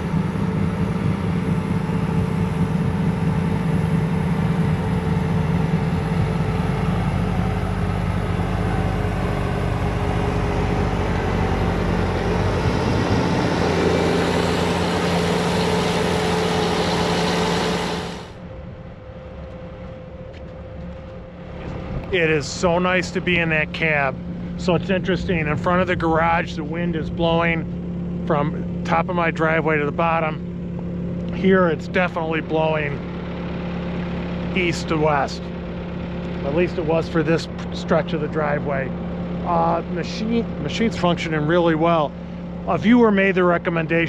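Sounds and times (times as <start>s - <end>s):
diesel engine and snowblower droning: 0.0s - 44.0s.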